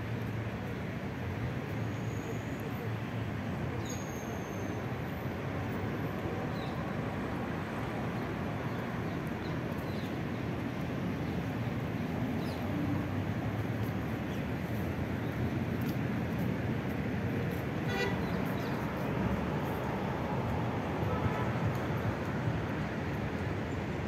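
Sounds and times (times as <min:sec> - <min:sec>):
road traffic hum: 0:00.0 - 0:24.0.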